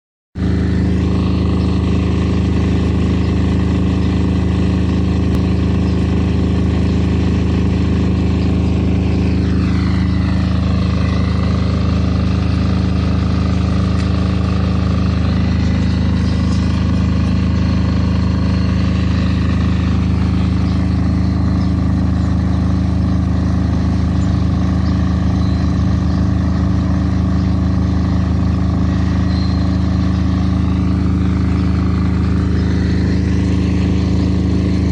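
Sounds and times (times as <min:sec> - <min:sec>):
diesel generator humming: 0:00.4 - 0:34.9.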